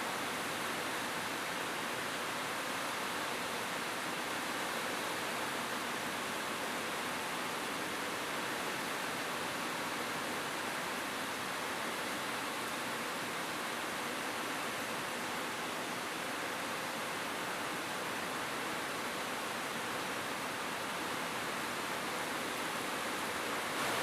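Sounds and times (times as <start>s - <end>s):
rain on a roof: 0.0s - 24.0s.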